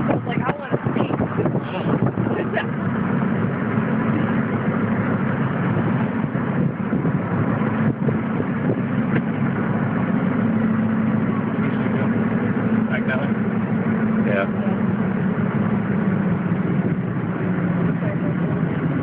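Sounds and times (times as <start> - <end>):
constant low hum: 0.0 - 19.0
vehicle engine and road noise: 0.0 - 19.0.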